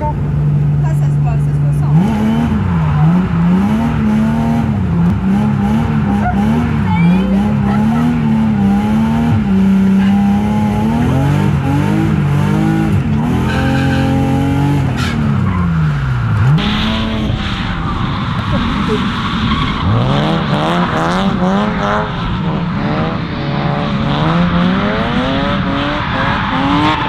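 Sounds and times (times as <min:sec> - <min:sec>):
car engine revving: 0:00.0 - 0:27.0
tyres skidding and squealing: 0:00.8 - 0:27.0.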